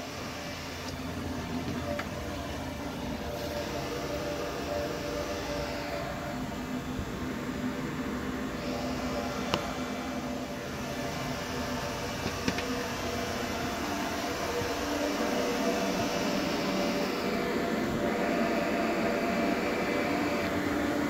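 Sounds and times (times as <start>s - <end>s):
ventilation hum: 0.0s - 21.0s.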